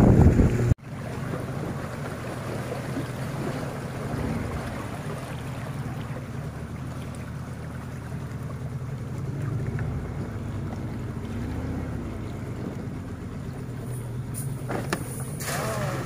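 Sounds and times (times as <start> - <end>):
boat engine running: 0.0 - 16.0
water washing along hull: 0.0 - 16.0.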